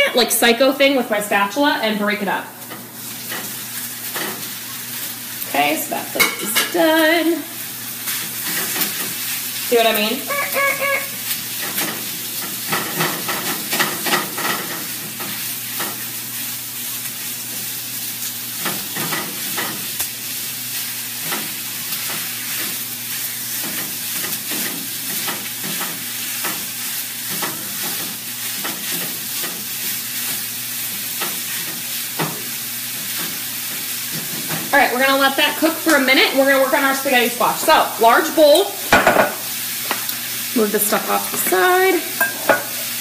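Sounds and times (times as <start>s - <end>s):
meat sizzling in a frying pan: 0.0s - 43.0s.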